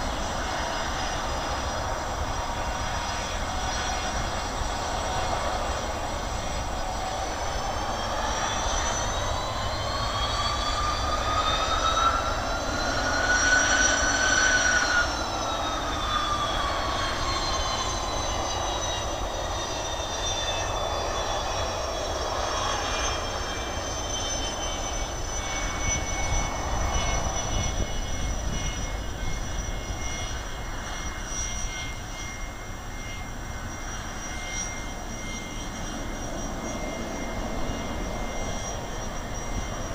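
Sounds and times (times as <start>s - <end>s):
jet airliner engine whine: 0.0s - 39.9s.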